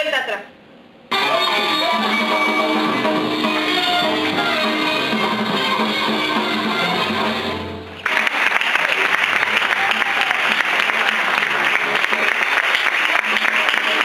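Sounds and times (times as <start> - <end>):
music playing: 1.1 - 8.3, 9.1 - 14.0
audience applauding: 1.1 - 14.0.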